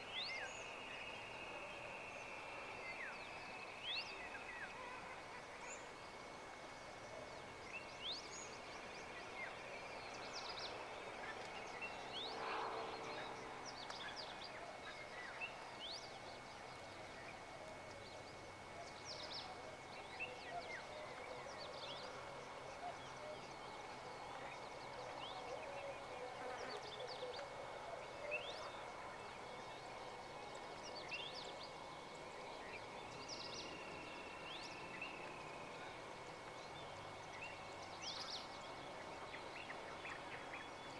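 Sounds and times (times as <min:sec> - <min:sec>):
low background hum: 0:00.0 - 0:40.9
steady high whine: 0:00.0 - 0:40.9.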